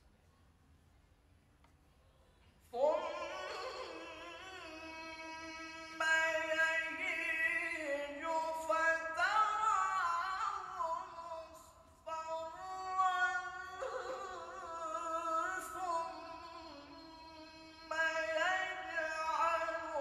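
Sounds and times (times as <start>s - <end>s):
man reciting melodically into microphone: 2.7s - 20.0s.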